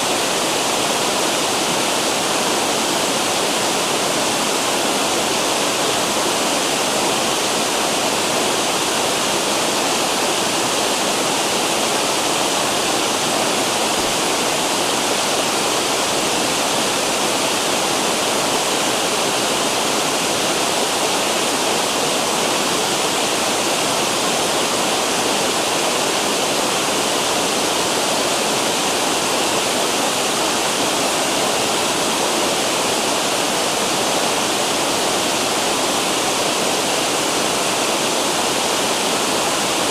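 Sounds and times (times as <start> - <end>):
water rushing over falls: 0.0 - 39.9.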